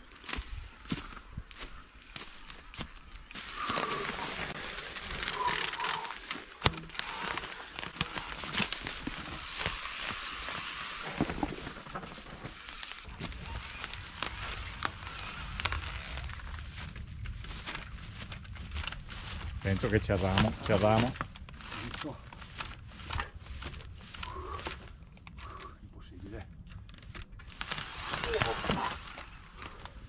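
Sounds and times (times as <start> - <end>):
dry leaves crackling under tyres: 0.0 - 24.9, 26.2 - 30.0.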